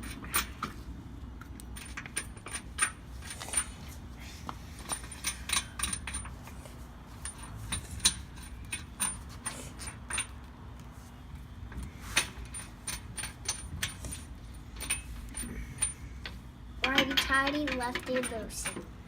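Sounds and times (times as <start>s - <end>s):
lug nuts and wrench clinking: 0.0s - 4.0s, 4.7s - 10.5s, 11.7s - 19.0s.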